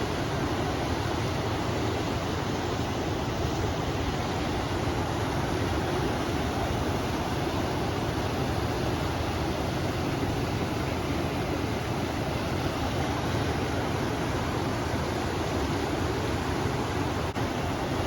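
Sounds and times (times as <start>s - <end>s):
river flowing water: 0.0s - 18.0s
wind: 0.0s - 18.0s.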